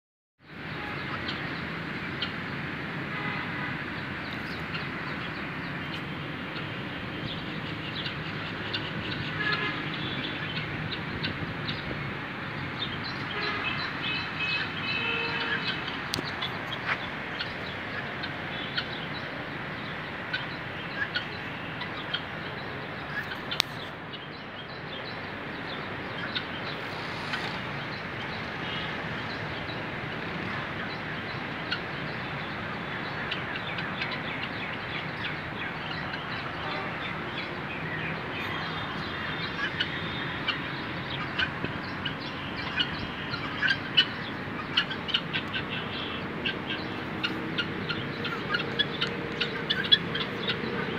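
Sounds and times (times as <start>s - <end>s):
birds chirping and calling: 3.9s - 50.9s.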